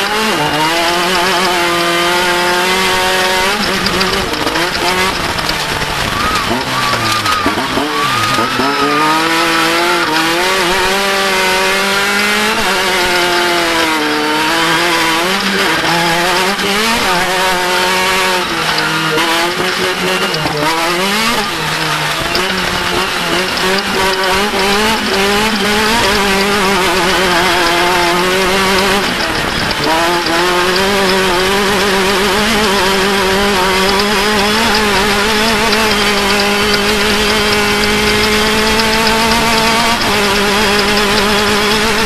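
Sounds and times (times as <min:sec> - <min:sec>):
race vehicle engine revving: 0:00.0 - 0:42.0.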